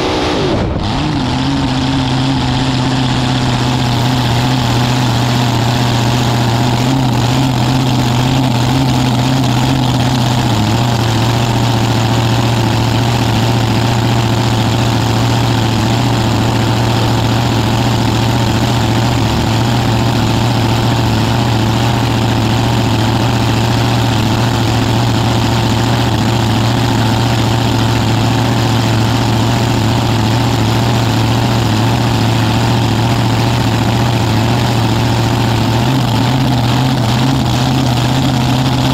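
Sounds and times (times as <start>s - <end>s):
dragster engine idling loud: 0.0s - 38.9s.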